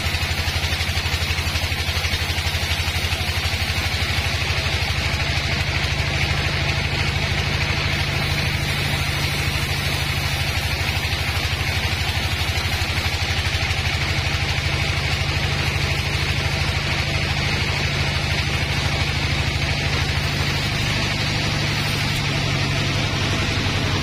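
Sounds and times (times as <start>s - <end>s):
bandsaw cutting log: 0.0s - 24.0s.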